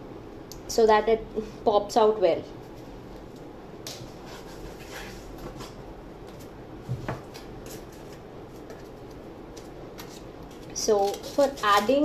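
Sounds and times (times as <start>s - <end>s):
low room noise: 0.0s - 12.0s.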